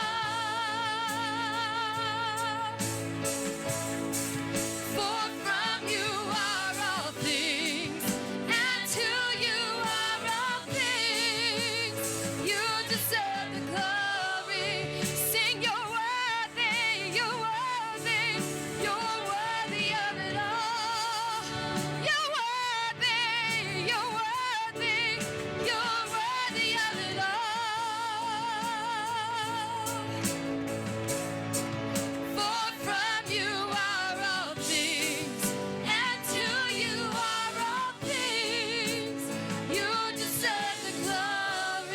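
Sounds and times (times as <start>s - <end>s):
gospel singing voices: 0.0s - 41.9s
instrumental accompaniment: 0.0s - 41.9s.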